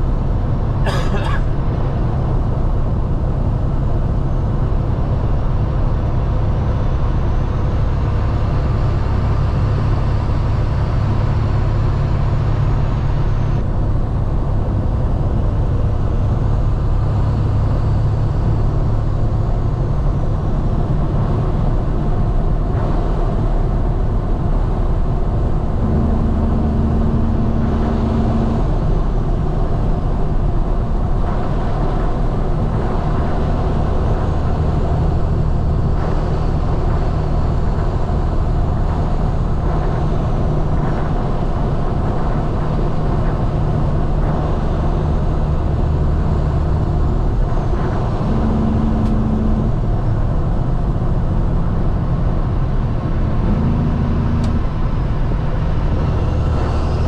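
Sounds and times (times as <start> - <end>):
diesel truck engine drone: 0.0 - 57.0
road noise: 0.0 - 57.0.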